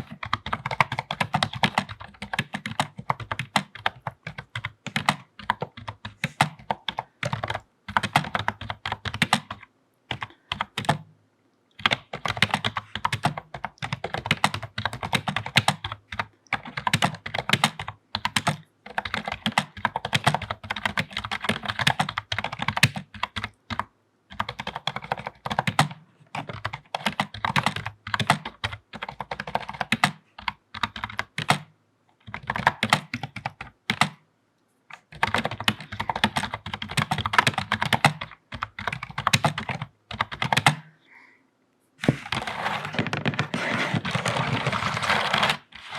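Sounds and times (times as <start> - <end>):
fast keyboard typing: 0.0 - 11.1, 11.8 - 34.2, 34.9 - 40.9, 42.0 - 45.9.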